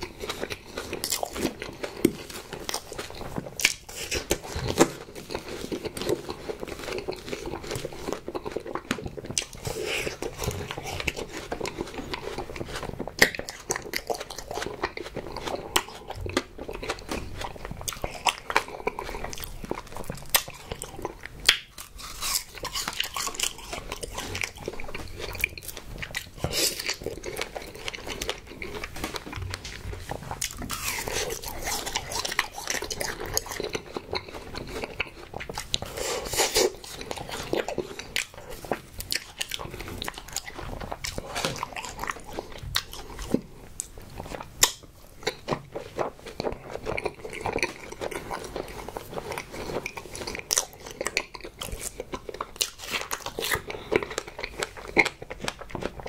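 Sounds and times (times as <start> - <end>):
biting and chewing: 0.0 - 56.0.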